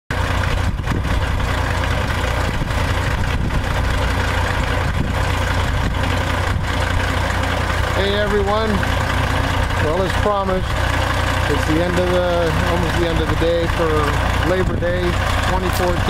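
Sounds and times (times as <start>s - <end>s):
truck diesel engine idling: 0.1s - 16.0s.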